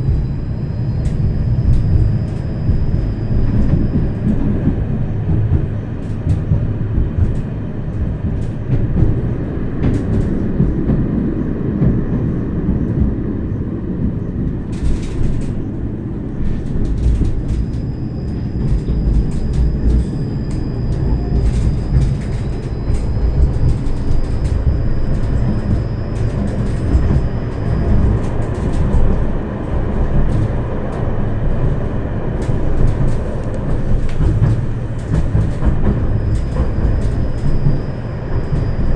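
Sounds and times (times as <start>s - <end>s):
tram wheels rumbling on rail: 0.0s - 38.9s.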